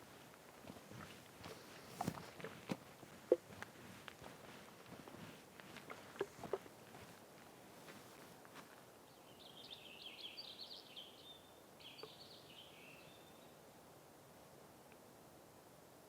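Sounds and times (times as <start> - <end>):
songbird singing faintly: 0.0 - 13.8.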